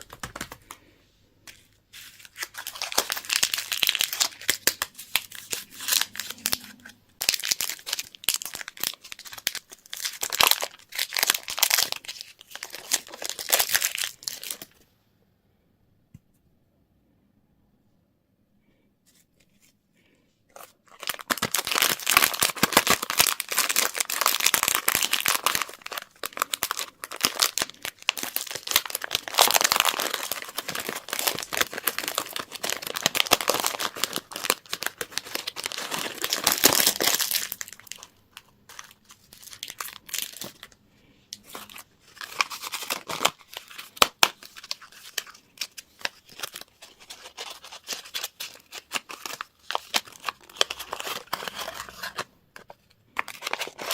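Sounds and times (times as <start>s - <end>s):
wrapper crinkling and crumpling: 1.5s - 14.8s, 20.5s - 53.9s.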